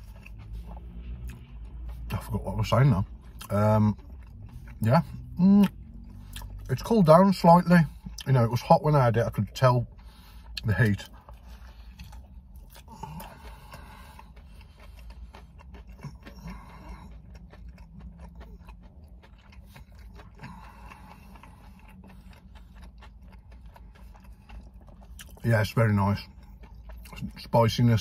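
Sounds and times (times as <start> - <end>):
low steady rumble: 0.0 - 28.0
person chewing crunchy food: 0.0 - 28.0.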